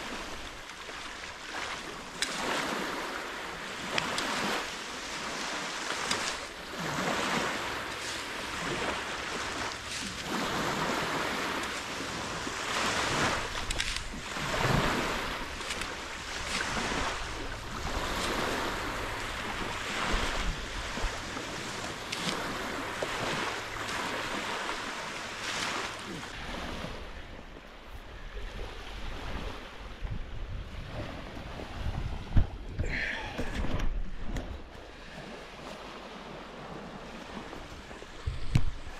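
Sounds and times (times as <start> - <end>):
small waves washing onto sand: 0.0 - 38.9
wind rumbling on microphone: 3.8 - 25.0, 25.7 - 38.9.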